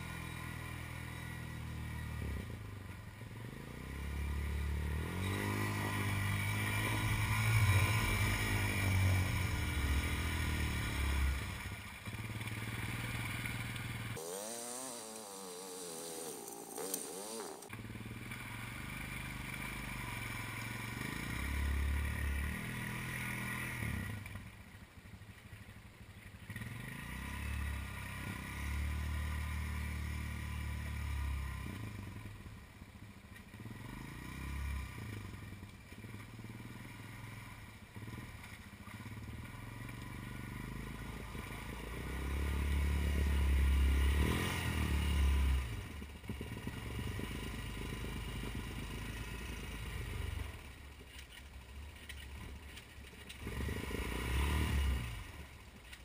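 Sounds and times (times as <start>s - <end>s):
quad bike engine revving: 0.0s - 24.6s, 26.4s - 56.0s.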